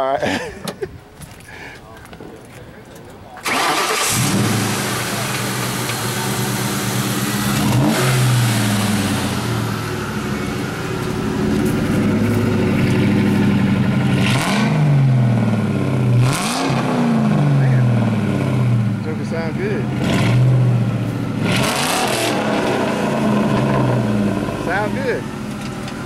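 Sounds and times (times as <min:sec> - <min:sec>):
car engine idling and revving: 0:03.4 - 0:26.0.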